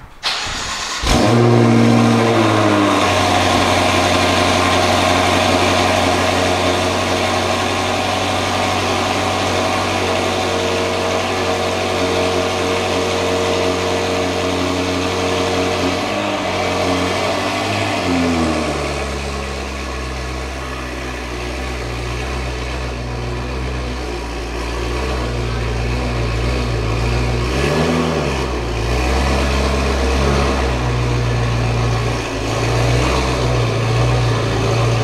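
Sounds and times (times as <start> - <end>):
car engine cold start and idle: 0.0 - 35.0.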